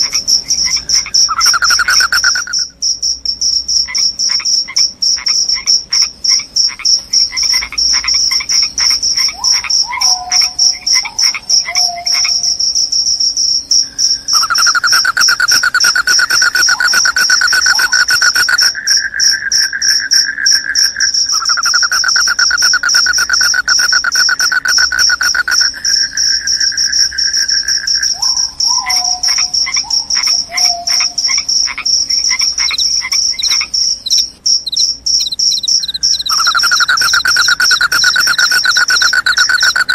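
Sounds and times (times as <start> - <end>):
crickets chirping high and fast: 0.0 - 39.9
lower continuous insect trill: 0.0 - 39.9.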